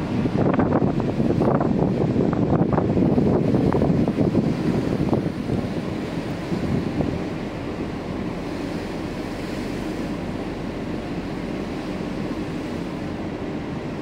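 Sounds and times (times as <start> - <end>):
ferry engine rumble: 0.0 - 14.0
rush of the sea: 0.0 - 14.0
wind on microphone: 0.0 - 14.0.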